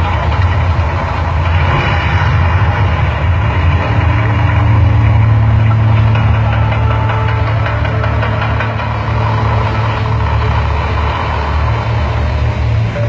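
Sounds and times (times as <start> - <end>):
deep volcano show rumble: 0.0 - 13.0
low hum of flames: 0.0 - 13.0.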